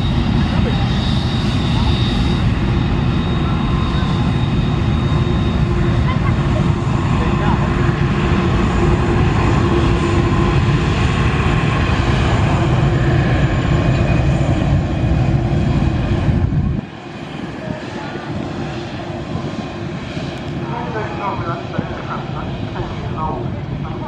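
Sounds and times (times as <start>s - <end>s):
distant jet roar: 0.0s - 24.0s
jet engines roaring with whine: 0.0s - 24.0s.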